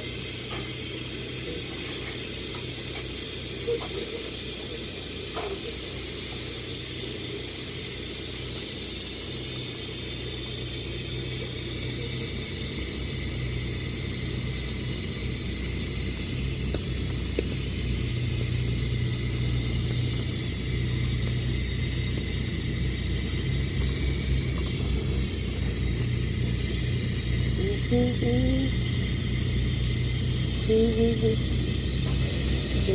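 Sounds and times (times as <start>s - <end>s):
steady low hum: 0.0s - 32.9s
welding arc sizzling hiss: 0.0s - 32.9s.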